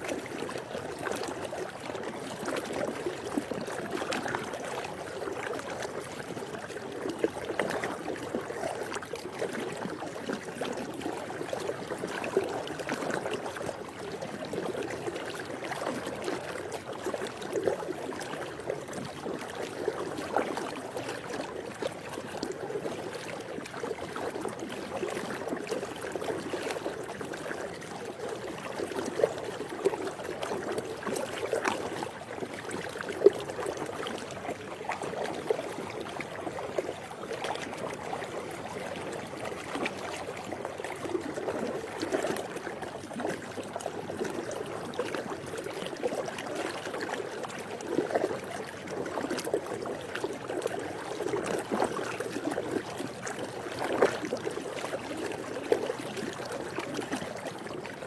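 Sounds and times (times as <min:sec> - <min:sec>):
pool water lapping and sloshing: 0:00.0 - 0:58.0
small water splashes: 0:00.0 - 0:58.0.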